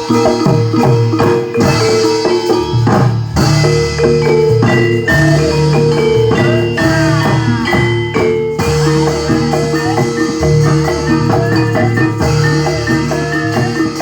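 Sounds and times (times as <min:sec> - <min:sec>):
drum strokes: 0:00.0 - 0:14.0
metallophones ringing melody: 0:00.0 - 0:14.0.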